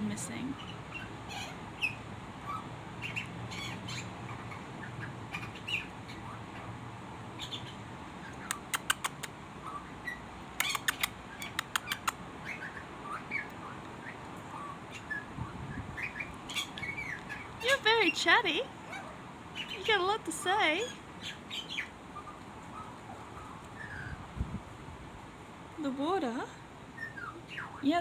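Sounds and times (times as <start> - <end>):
small bird chirping: 0.0 - 24.5, 26.0 - 28.0.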